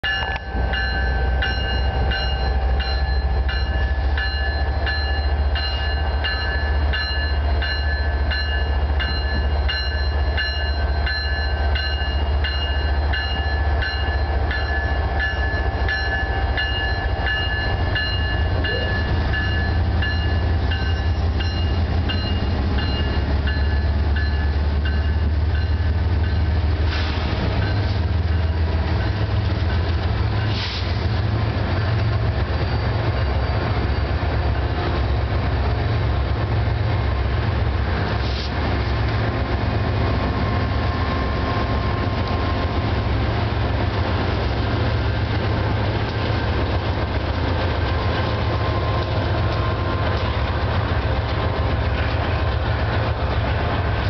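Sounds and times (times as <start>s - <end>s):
locomotive bell ringing: 0.0s - 26.8s, 27.5s - 30.6s, 31.8s - 35.8s, 39.2s - 54.0s
diesel locomotive engines rumbling: 0.0s - 54.0s.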